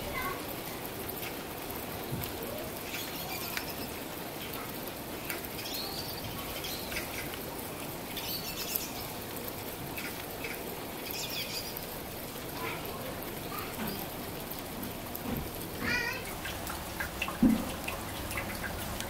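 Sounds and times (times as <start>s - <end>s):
steady rain falling: 0.0s - 19.0s
small birds chirping: 2.0s - 15.0s, 15.9s - 19.0s.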